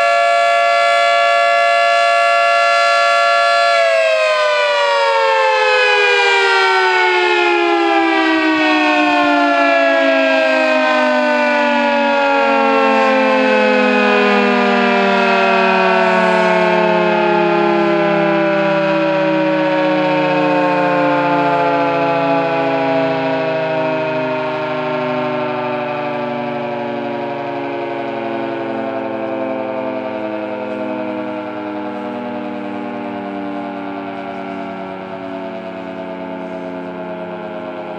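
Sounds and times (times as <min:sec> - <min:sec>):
warning siren winding down: 0:00.0 - 0:37.9.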